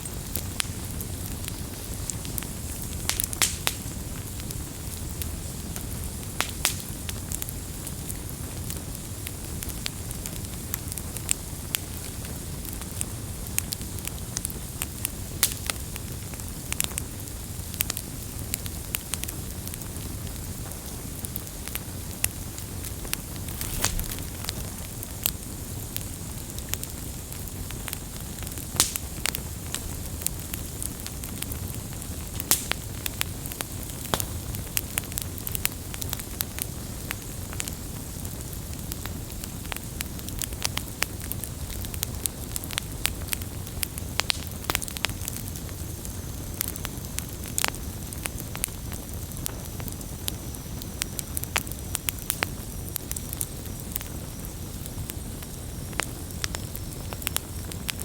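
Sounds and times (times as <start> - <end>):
campfire crackling and popping: 0.0 - 58.0
low rumble of flame: 0.0 - 58.0.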